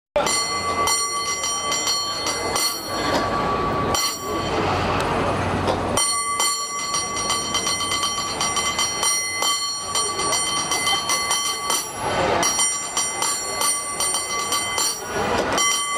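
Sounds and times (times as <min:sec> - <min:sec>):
cable car bell ringing: 0:00.2 - 0:15.9.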